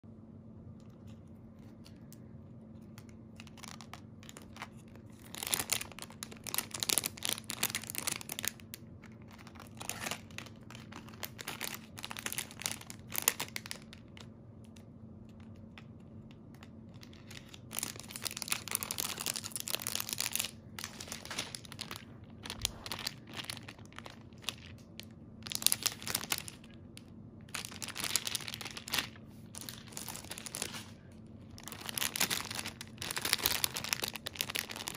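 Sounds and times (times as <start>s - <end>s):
plastic bags crinkling: 2.8s - 14.3s, 16.6s - 34.9s.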